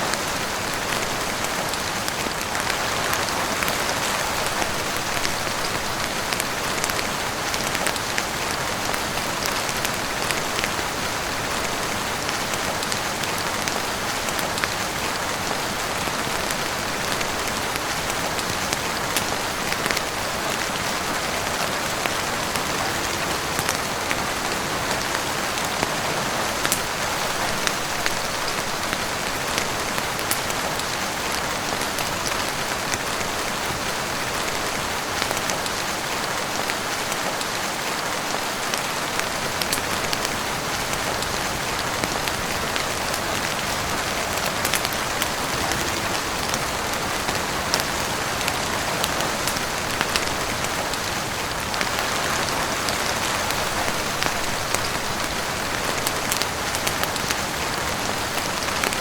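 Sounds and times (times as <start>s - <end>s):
heavy rain on roof and windows: 0.0s - 59.0s.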